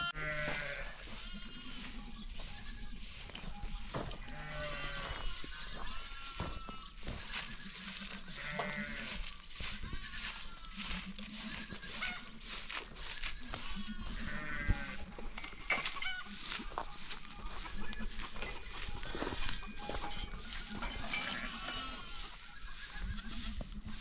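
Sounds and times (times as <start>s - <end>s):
sheep and goats bleating: 0.0s - 24.0s.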